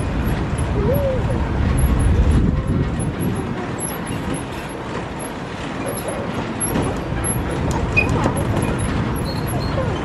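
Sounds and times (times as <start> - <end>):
tram engine and road rumble: 0.0 - 10.0.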